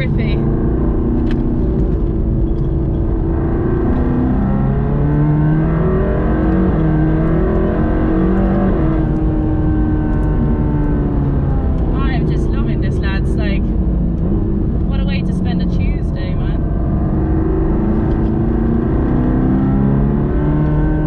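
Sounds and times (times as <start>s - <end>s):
car engine from inside cabin: 0.0s - 21.0s.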